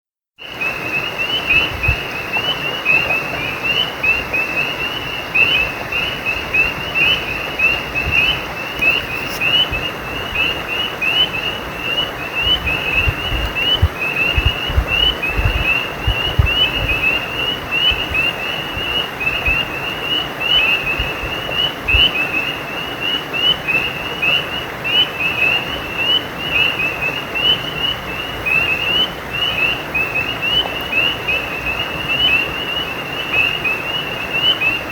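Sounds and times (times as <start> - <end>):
frogs chirping in chorus: 0.4 - 34.9
stream rushing: 0.4 - 34.9.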